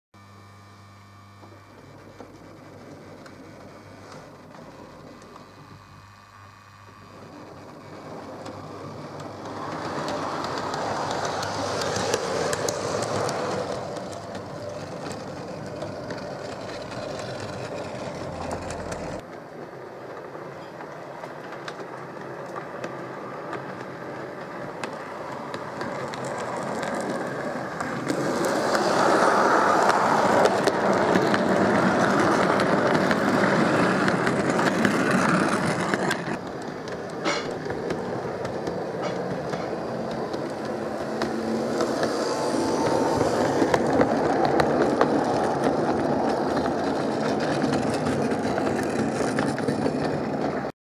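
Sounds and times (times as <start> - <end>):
model train motor hum: 0.2 - 50.7
wheels rolling on rails: 1.3 - 50.7.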